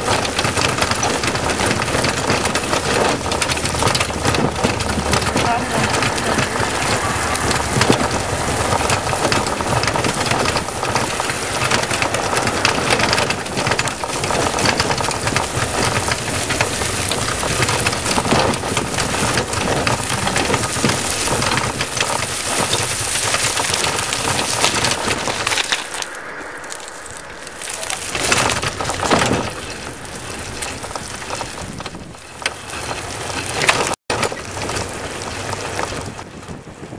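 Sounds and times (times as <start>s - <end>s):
tyres rolling over gravel: 0.0s - 36.9s.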